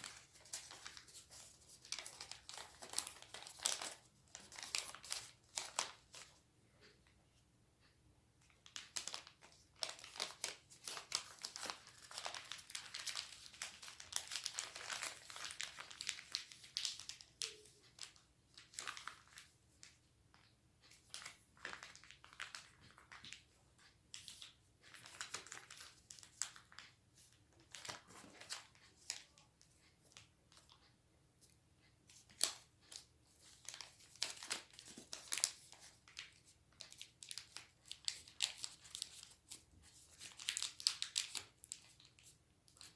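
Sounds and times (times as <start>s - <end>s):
paper being folded and crinkled: 0.0s - 6.4s, 8.6s - 23.5s, 24.1s - 30.9s, 32.2s - 42.9s.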